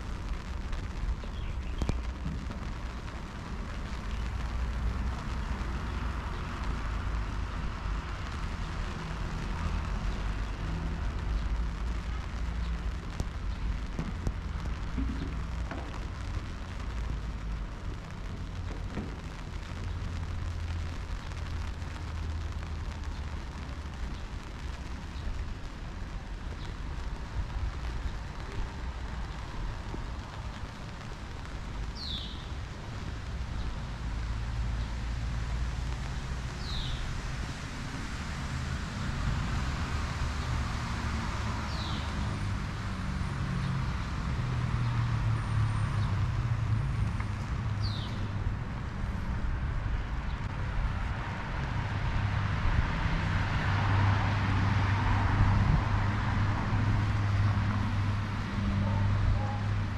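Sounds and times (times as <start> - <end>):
low traffic rumble: 0.0 - 59.9.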